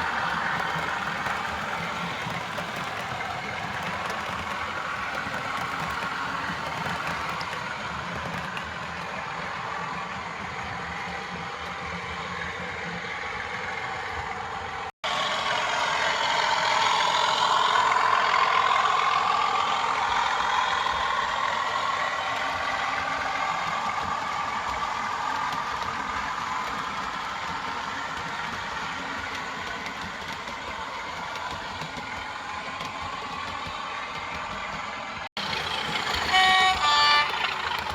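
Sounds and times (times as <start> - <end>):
model locomotive diesel engine sound: 0.0 - 37.9.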